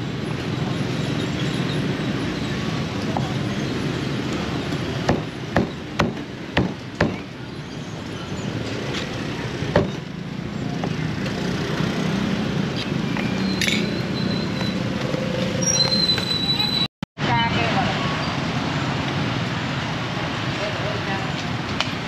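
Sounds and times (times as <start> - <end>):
street traffic: 0.0 - 22.0.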